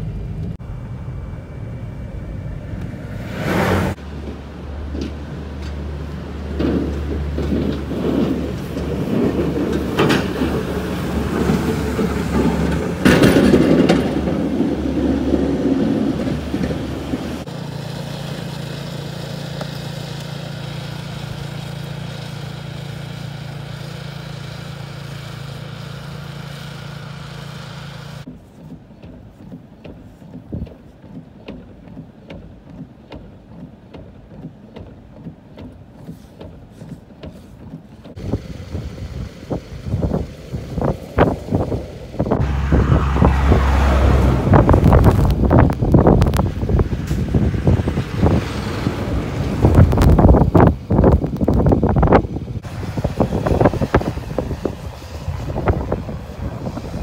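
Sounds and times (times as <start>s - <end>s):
snowblower engine humming: 0.0s - 13.0s, 13.8s - 28.3s, 38.2s - 57.0s
truck diesel engine: 0.0s - 30.4s, 31.0s - 57.0s
plow blade scraping road: 0.0s - 57.0s.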